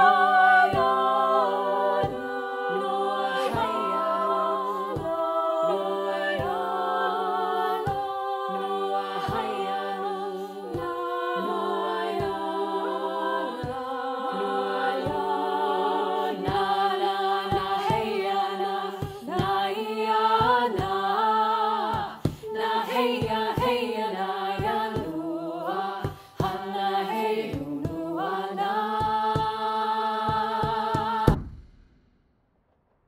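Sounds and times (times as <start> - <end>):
women singing a cappella: 0.0 - 31.4.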